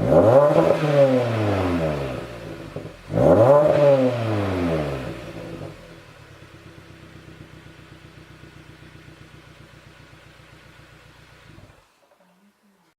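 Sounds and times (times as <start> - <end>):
car engine revving and idling: 0.0 - 11.9.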